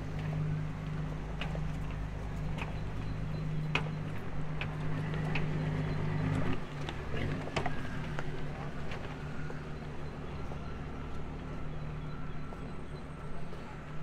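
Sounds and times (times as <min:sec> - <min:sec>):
footsteps on pavement: 0:00.0 - 0:14.0.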